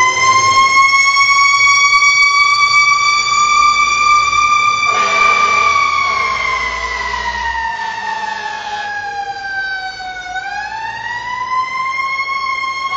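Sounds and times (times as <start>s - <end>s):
emergency siren wailing: 0.0s - 12.9s.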